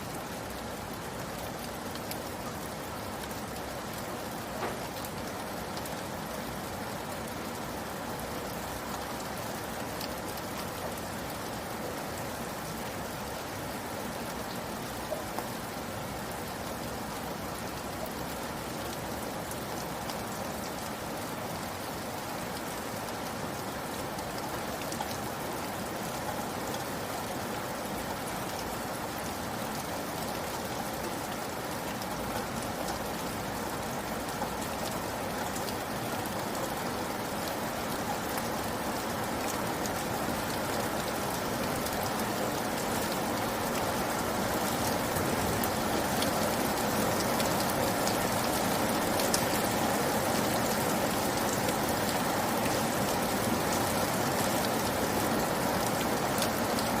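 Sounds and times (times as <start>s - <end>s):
raindrops ticking on a surface: 0.0s - 57.0s
steady rain hissing: 0.0s - 57.0s.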